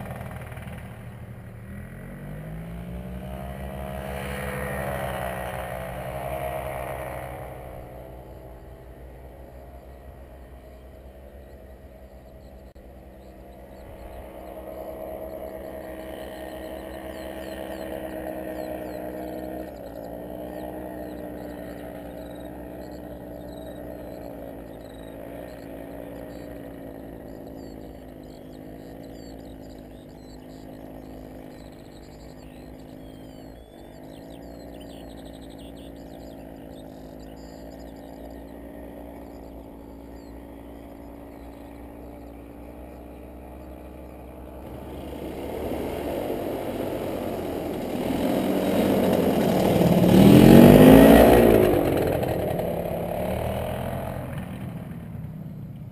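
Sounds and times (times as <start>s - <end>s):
paramotor engine and propeller droning: 0.0s - 55.9s.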